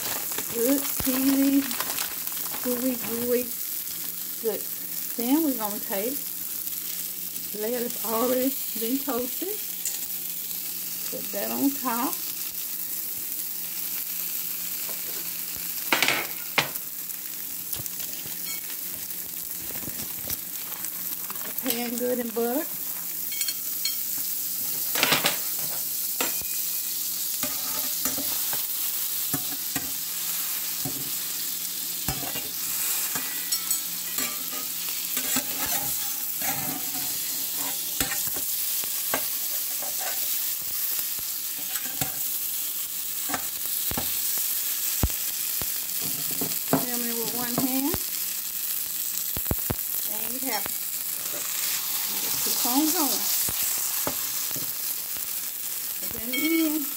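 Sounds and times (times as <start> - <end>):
butter sizzling in a skillet: 0.0 - 56.9.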